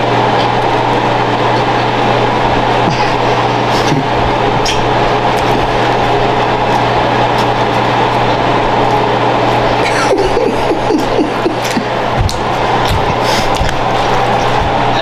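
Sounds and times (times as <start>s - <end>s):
loud mechanical hum: 0.0s - 15.0s.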